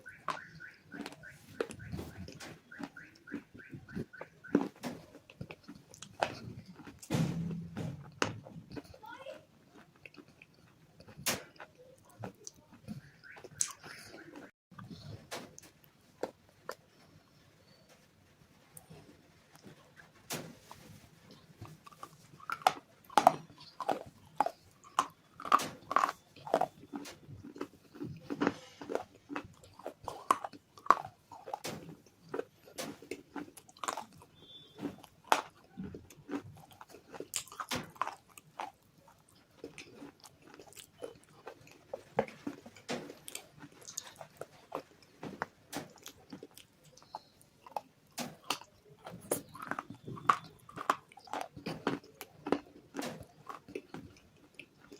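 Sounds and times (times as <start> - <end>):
chewing crunchy clay: 0.0 - 17.8, 18.7 - 54.9.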